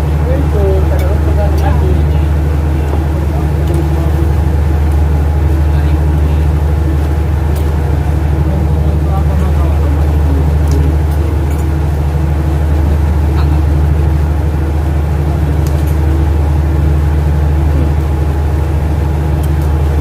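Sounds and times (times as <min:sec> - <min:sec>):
ship engine low drone: 0:00.0 - 0:20.0.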